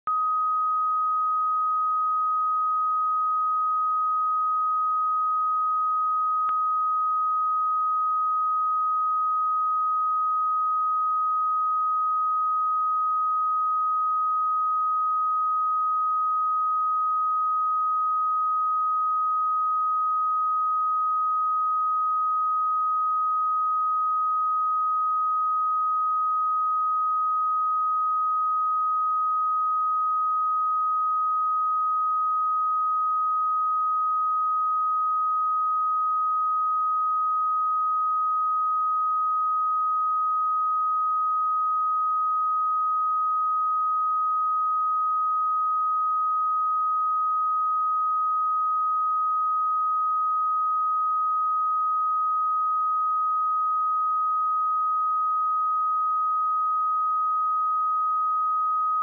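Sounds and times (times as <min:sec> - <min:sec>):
sine-wave test tone: 0:00.0 - 0:59.0.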